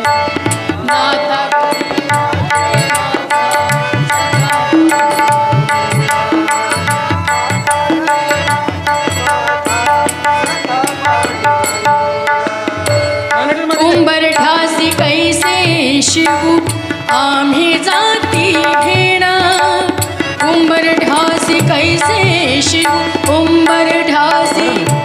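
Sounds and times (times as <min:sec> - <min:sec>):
harmonium melody: 0:00.0 - 0:25.0
tabla playing a rhythm: 0:00.0 - 0:25.0.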